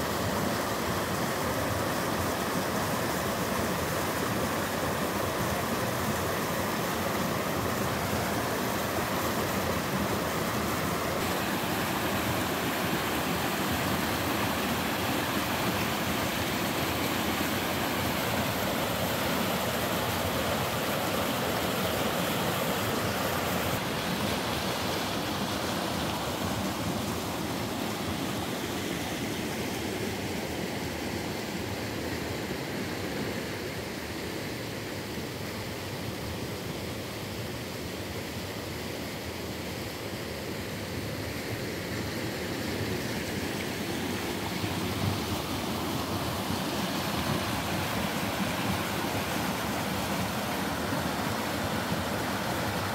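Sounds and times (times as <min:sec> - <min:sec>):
stream rushing over boulders: 0:00.0 - 0:52.9.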